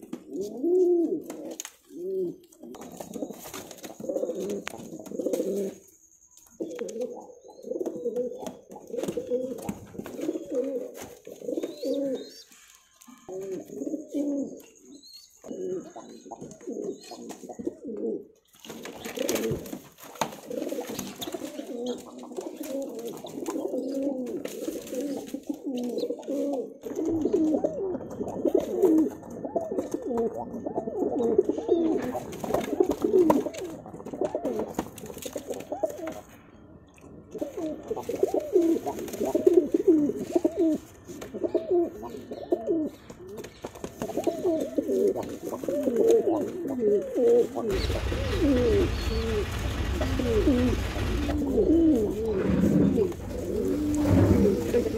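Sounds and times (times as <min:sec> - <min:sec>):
pigeons cooing: 0:00.0 - 0:05.9, 0:06.5 - 0:36.4, 0:37.2 - 0:54.9.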